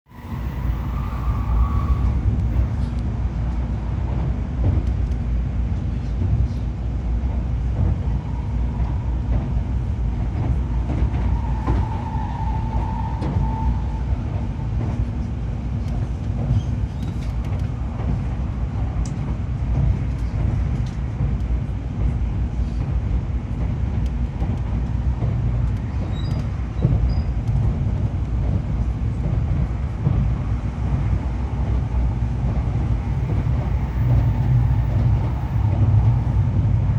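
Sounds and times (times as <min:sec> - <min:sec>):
train cabin low rumble: 0:00.1 - 0:36.9.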